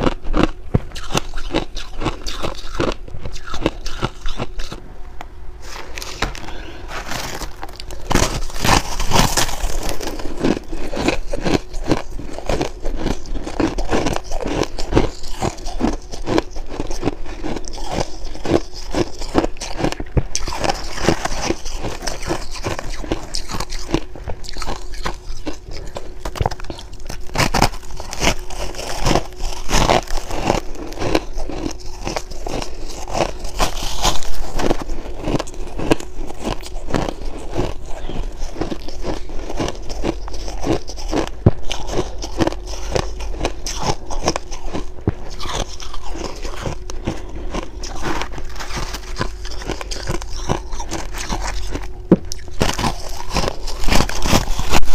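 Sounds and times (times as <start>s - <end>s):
ice crunching while chewed: 0.0s - 4.8s, 5.6s - 54.9s.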